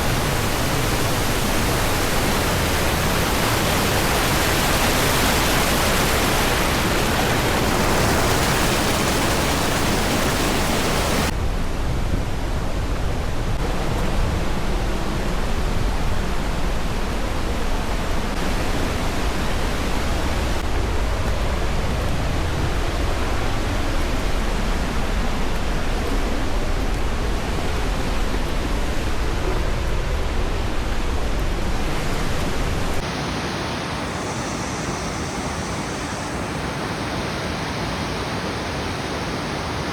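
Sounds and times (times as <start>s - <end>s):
waterfall rushing: 0.0s - 11.4s, 12.6s - 39.9s.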